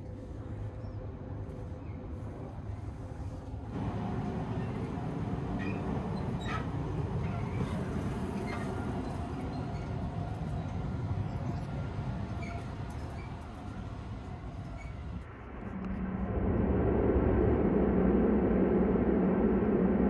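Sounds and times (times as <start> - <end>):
low hum: 0.0 - 20.0
train rumble from inside car: 0.0 - 20.0
rushing noise: 3.8 - 20.0.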